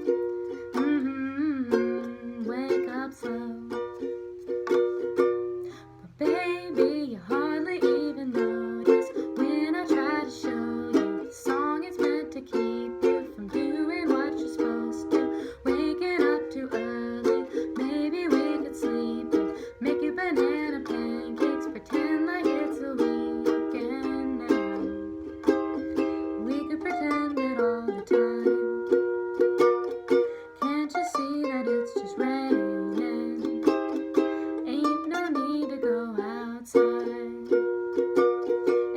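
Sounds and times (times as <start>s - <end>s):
ukulele strumming: 0.0s - 38.9s.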